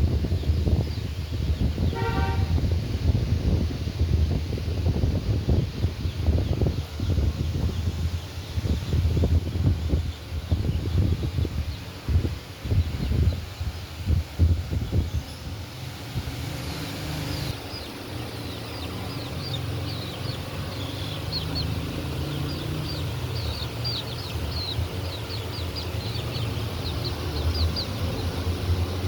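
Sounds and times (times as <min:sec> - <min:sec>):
baby birds peeping: 0:00.0 - 0:29.0.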